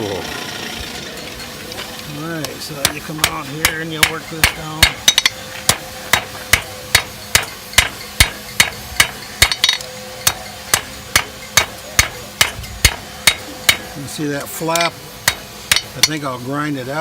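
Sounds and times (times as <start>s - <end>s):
hammer striking steel on anvil: 2.7s - 16.4s.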